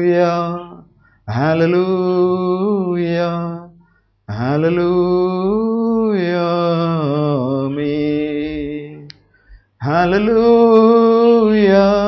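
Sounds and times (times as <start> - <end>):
man chanting: 0.0 - 9.1, 9.8 - 12.0.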